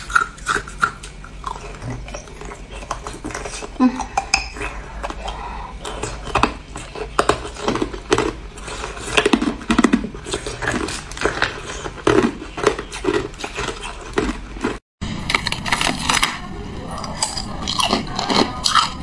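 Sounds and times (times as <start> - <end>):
ice cubes being chewed: 0.0 - 19.0.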